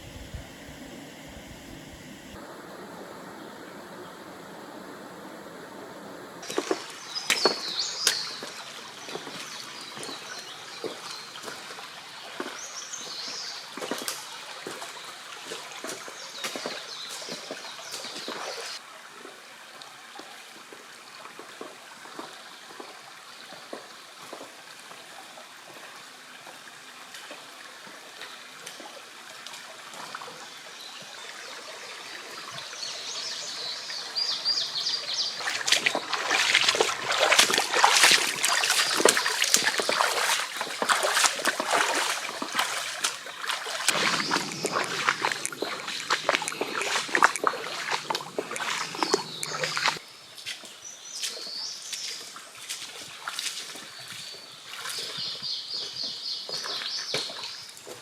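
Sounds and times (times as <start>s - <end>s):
shallow stream running: 0.0s - 58.0s.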